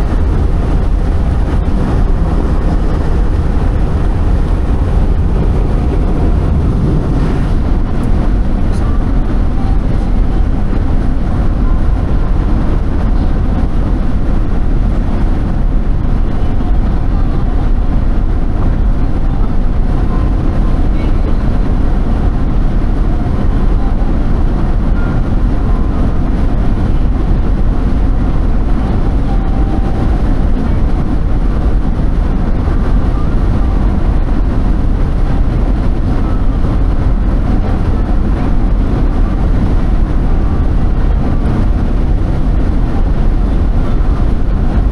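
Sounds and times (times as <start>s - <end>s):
road noise: 0.0s - 44.9s
vehicle engine rumble: 0.0s - 44.9s.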